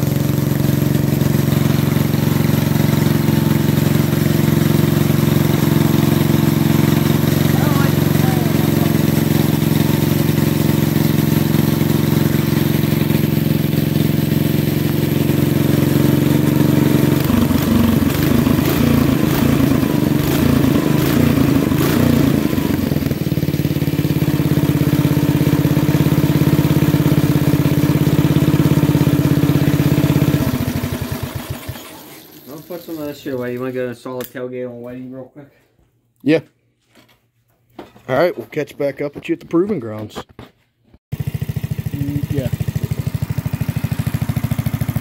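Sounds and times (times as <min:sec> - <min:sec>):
engine idling and revving: 0:00.0 - 0:32.7, 0:41.1 - 0:45.0.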